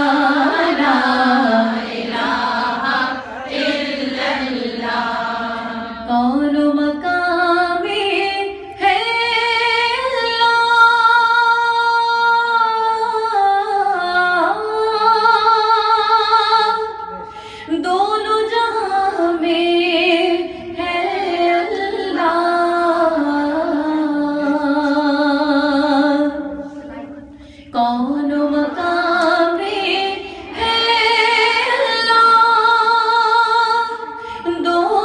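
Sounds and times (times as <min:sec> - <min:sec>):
woman singing into a microphone: 0:00.0 - 0:02.8, 0:05.6 - 0:35.0.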